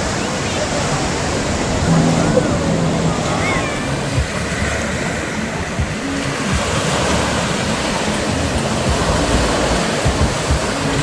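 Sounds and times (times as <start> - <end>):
sea waves breaking on shore: 0.0 - 11.0.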